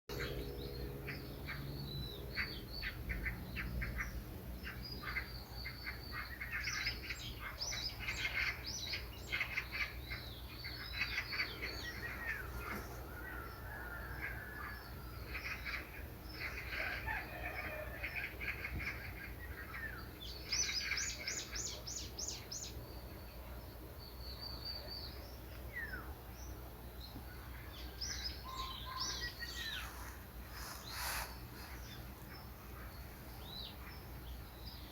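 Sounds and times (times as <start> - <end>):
low steady hum: 0.1 - 34.9
songbirds chirping and singing: 0.1 - 34.9.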